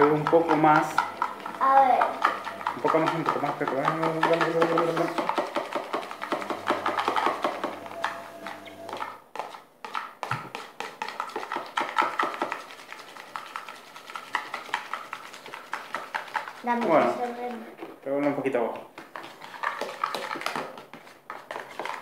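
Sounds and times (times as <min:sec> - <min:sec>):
spoon stirring in plastic bowl: 0:00.0 - 0:22.0.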